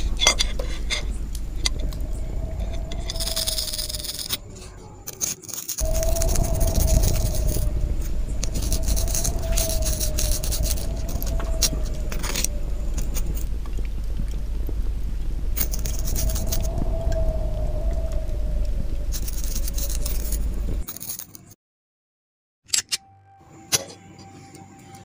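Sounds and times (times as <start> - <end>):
low hum with wavering tone: 0.0 - 20.9.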